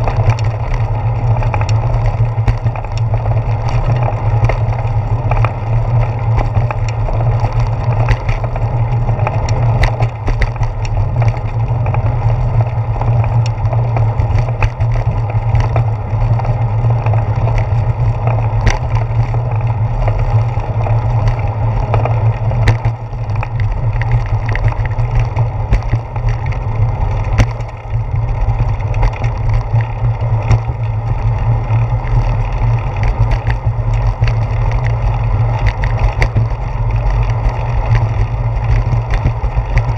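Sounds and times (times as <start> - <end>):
bicycle tyres rumbling on road: 0.0 - 39.9.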